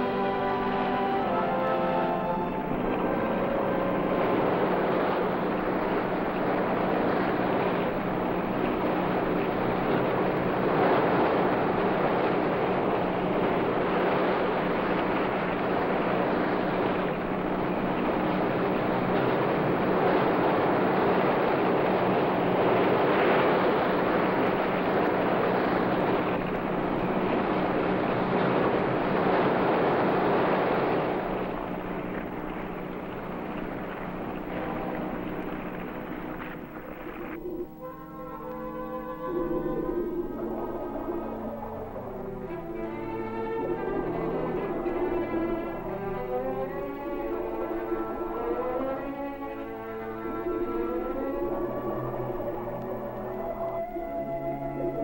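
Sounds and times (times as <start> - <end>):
faint low hum: 0.0 - 55.0
motorboat engine running: 0.0 - 55.0
music: 0.0 - 55.0
rushing water: 0.0 - 55.0.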